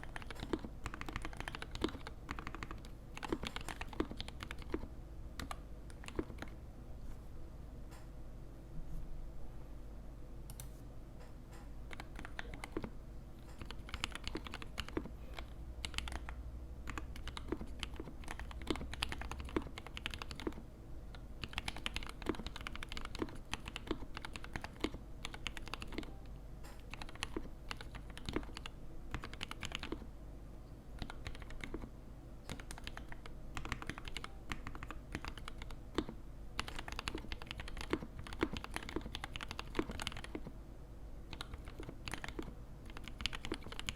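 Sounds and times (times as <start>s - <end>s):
mechanical keyboard typing: 0.0s - 6.6s, 11.9s - 30.1s, 31.0s - 31.9s, 32.5s - 40.5s, 41.3s - 43.9s
faint low hum: 0.0s - 43.9s.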